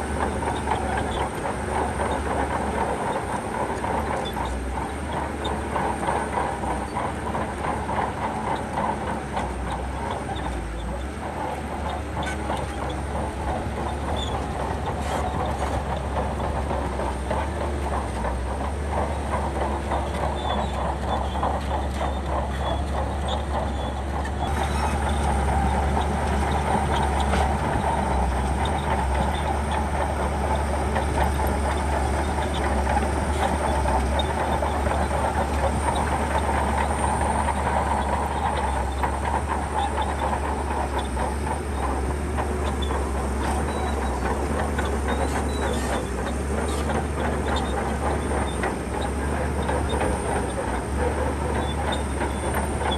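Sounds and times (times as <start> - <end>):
bulldozer diesel engine running: 0.0 - 52.9
steel tracks clattering: 0.0 - 52.9.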